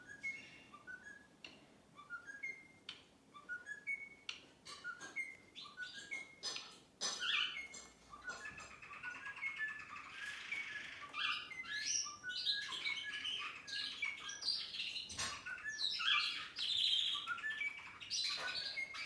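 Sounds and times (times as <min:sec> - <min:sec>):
bird whistling and chirping: 0:00.0 - 0:19.0.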